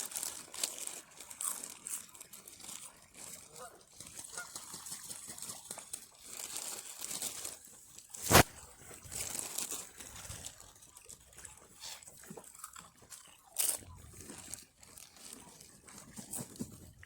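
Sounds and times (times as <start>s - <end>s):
crisp packet crinkling: 0.0s - 11.2s, 12.2s - 16.9s
crisps crunching: 0.0s - 17.0s.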